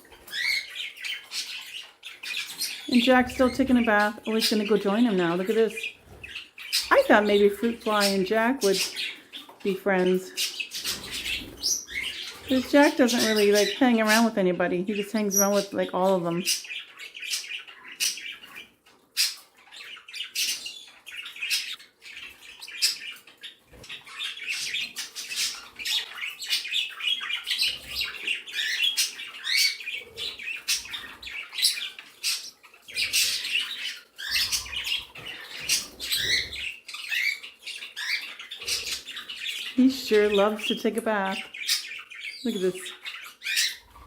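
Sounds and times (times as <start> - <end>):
cage birds chirping: 0.0 - 44.0.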